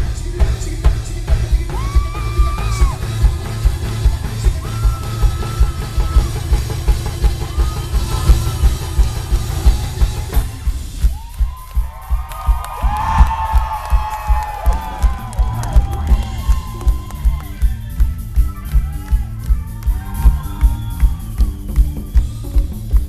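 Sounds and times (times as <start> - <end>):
drum kit beat: 0.0 - 23.0
live band up-tempo song: 0.0 - 23.0.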